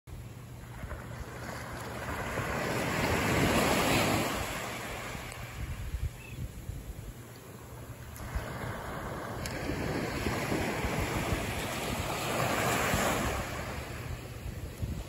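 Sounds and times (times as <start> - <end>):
waves washing up sand: 0.6 - 6.0, 7.4 - 15.0
wind buffeting microphone: 2.0 - 7.2, 7.9 - 15.0.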